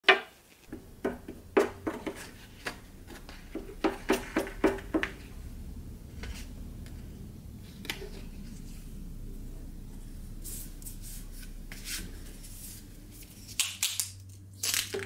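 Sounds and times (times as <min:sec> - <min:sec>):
faint low hum: 0:00.6 - 0:15.0.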